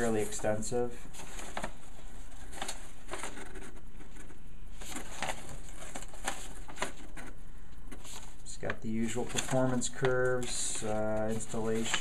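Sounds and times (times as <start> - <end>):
pages flipping: 0.0 - 12.0
steady low hum: 0.0 - 12.0.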